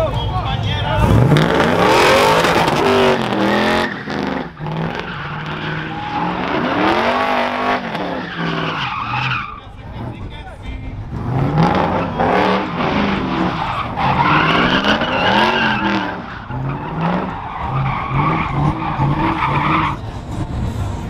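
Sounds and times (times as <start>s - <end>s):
vehicle engine revving: 0.8s - 10.3s, 11.0s - 21.0s.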